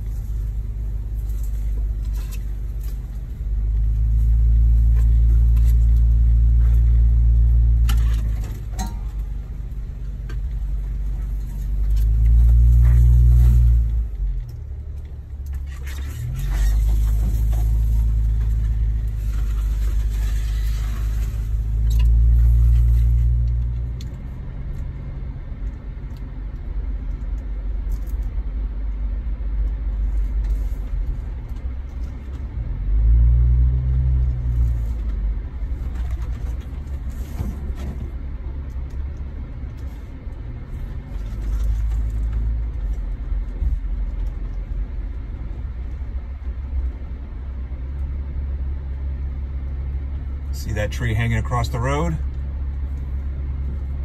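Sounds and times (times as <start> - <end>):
drivetrain and tyres rumbling: 0.0 - 54.0
engine running at low speed: 0.0 - 54.0.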